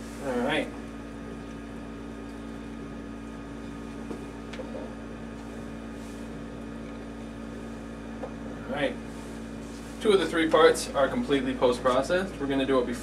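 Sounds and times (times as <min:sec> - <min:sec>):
machine tank humming: 0:00.0 - 0:13.0.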